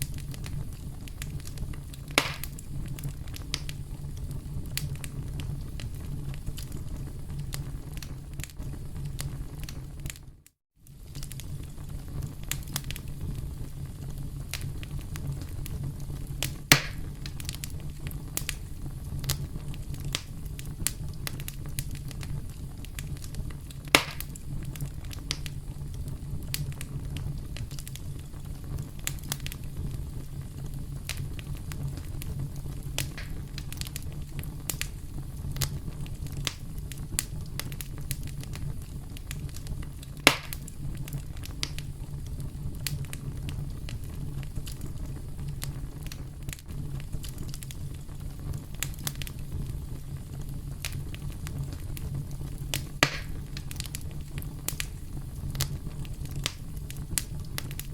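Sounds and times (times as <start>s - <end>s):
campfire flames rumbling: 0.0s - 57.9s
crackles of burning wood: 0.0s - 57.9s
loud fire pops: 0.0s - 57.9s.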